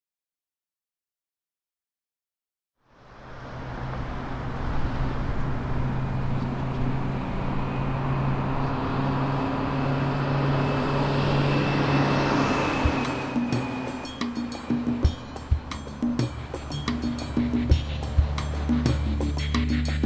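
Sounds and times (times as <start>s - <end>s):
engine-like rumble: 2.8s - 20.0s.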